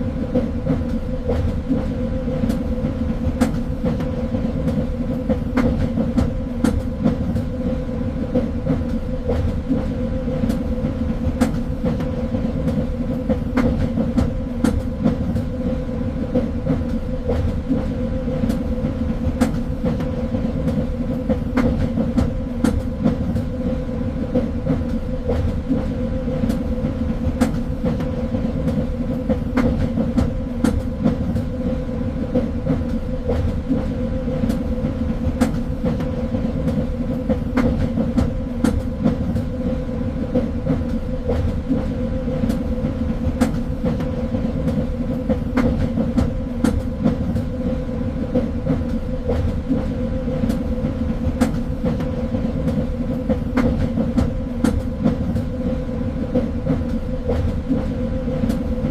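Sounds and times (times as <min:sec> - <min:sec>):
train rumbling on track: 0:00.0 - 0:58.9.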